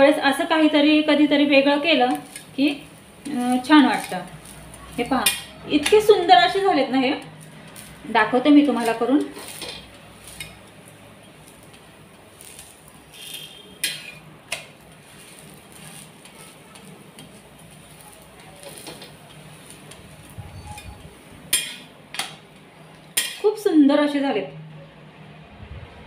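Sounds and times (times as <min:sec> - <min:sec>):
metal spatula scraping a griddle: 0:02.1 - 0:23.5.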